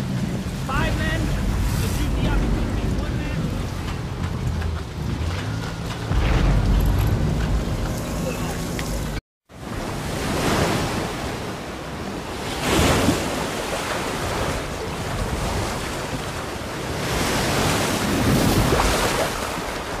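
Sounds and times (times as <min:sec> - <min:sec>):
ocean waves: 0:00.0 - 0:20.0
wind: 0:00.0 - 0:20.0.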